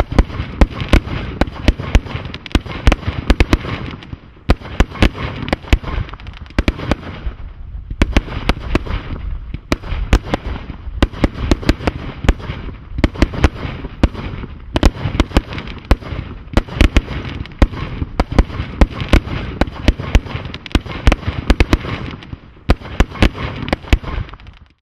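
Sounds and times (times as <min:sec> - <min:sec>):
firework bangs: 0:00.0 - 0:24.8
firework crackling: 0:00.0 - 0:24.8.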